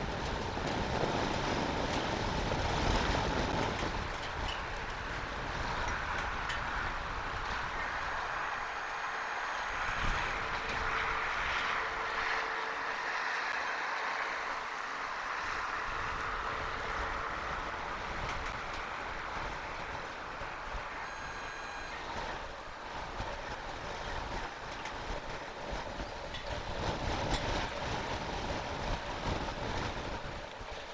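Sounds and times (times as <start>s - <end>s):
strong storm wind: 0.0s - 30.9s
wind buffeting rumbles: 0.0s - 30.9s.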